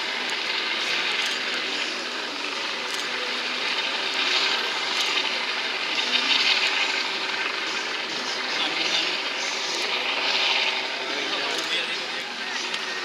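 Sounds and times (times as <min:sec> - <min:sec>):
distant helicopter hovering: 0:00.0 - 0:13.0.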